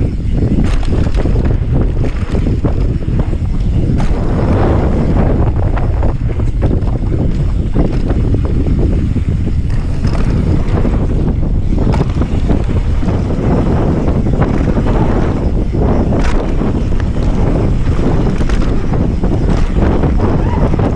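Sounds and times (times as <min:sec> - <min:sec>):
bike knocking and rattling: 0:00.0 - 0:20.9
tyre rumble on dirt trail: 0:00.0 - 0:20.9
wind buffeting microphone: 0:00.0 - 0:20.9.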